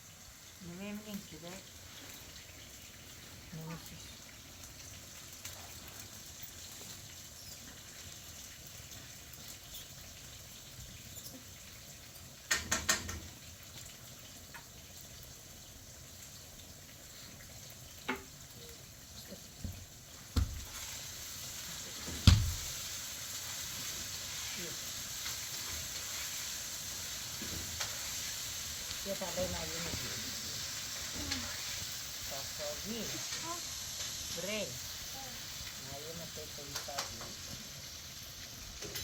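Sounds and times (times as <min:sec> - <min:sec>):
food sizzling: 0:00.0 - 0:39.0.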